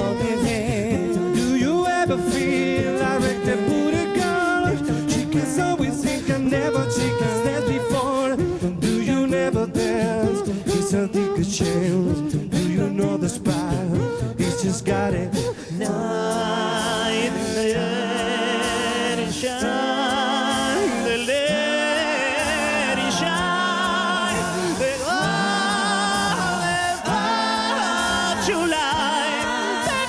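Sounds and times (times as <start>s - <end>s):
vocal beatbox percussion: 0.0s - 30.0s
vocal group singing in harmony: 0.0s - 30.0s.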